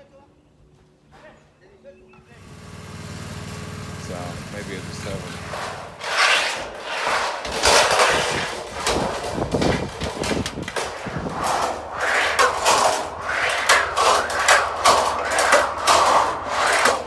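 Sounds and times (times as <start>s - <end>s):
scraping: 2.3s - 17.0s.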